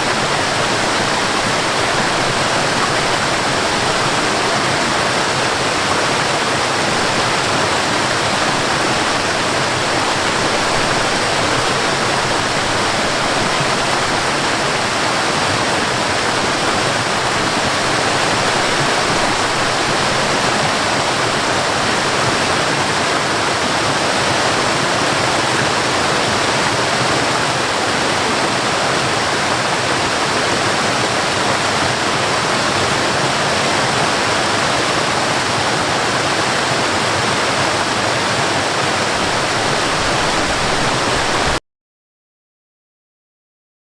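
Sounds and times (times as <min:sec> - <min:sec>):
waterfall rushing: 0:00.0 - 0:41.6.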